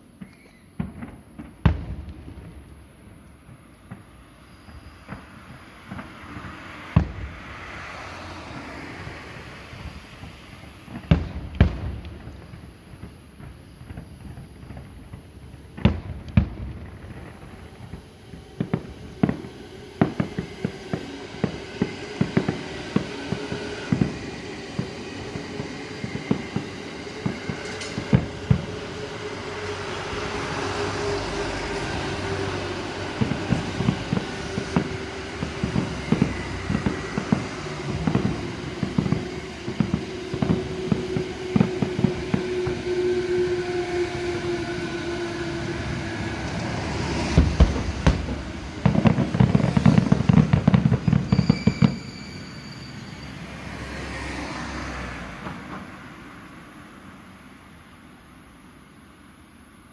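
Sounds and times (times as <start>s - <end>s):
fireworks bangs and crackles: 0.0s - 54.8s, 55.4s - 55.9s.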